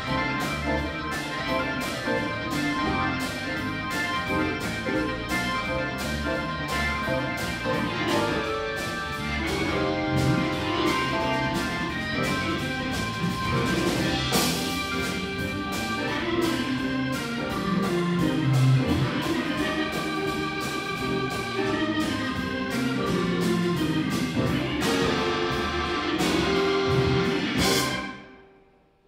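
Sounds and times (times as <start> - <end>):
live blues band playing: 0.0 - 28.4.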